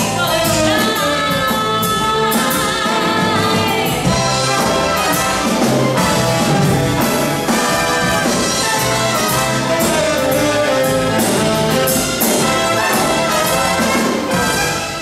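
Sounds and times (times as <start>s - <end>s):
symphony orchestra playing: 0.0s - 15.0s.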